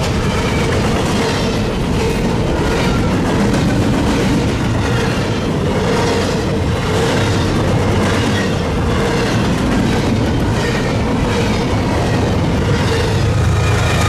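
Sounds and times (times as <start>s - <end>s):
freight train wheels rumbling on rail: 0.0s - 14.0s.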